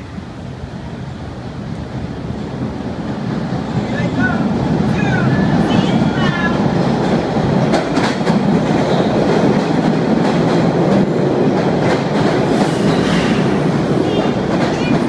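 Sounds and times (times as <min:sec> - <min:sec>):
subway train rumbling past: 0:00.0 - 0:15.0.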